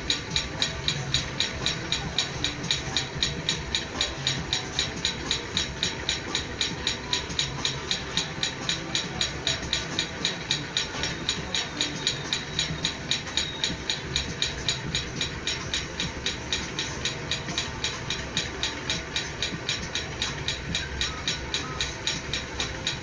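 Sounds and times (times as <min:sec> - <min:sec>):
steady ticking: 0:00.0 - 0:23.0.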